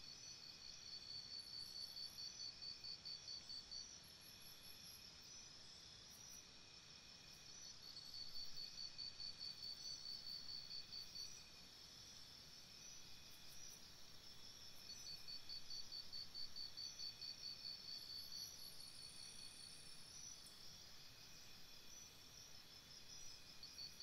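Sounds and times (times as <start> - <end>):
high insect drone: 0.1 - 24.0.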